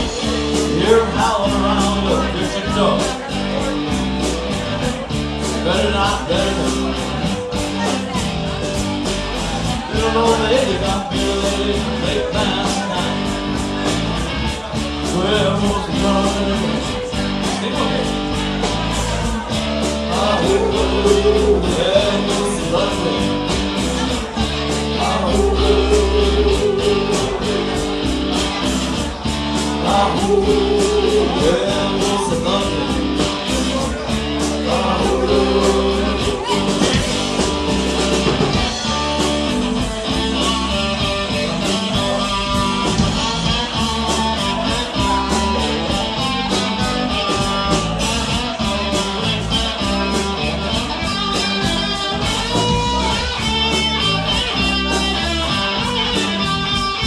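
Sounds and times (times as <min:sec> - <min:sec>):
bass: 0:00.0 - 0:57.0
electric guitar: 0:00.0 - 0:57.0
steady drum beat: 0:00.0 - 0:57.0.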